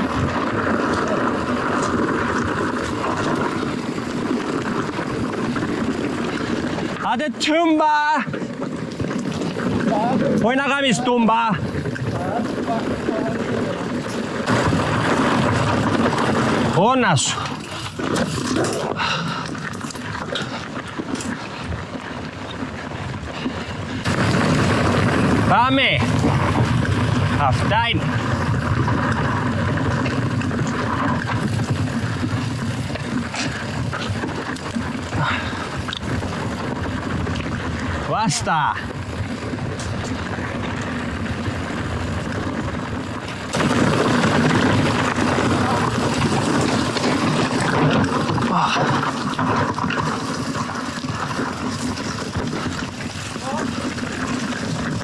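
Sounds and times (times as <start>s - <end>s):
bike rattling and clicking: 0.0s - 55.0s
bike tyres rolling over dirt and stones: 0.0s - 55.0s
wind noise on microphone: 8.9s - 55.0s.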